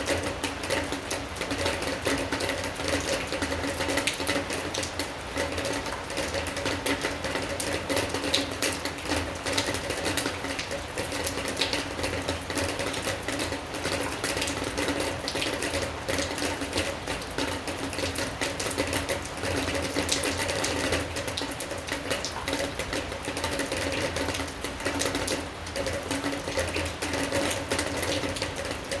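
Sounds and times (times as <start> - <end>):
steady rain patter: 0.0 - 29.0.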